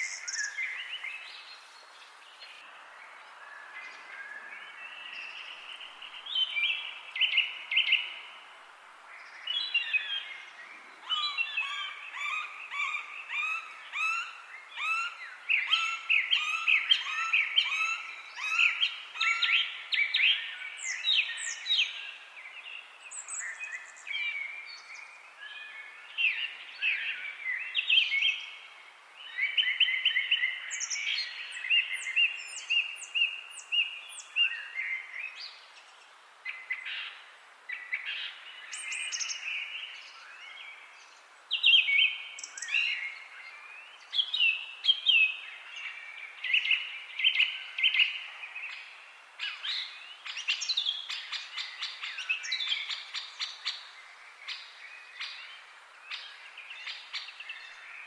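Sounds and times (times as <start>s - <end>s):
faint background hiss: 0.0s - 58.0s
songbirds chirping: 0.0s - 58.0s.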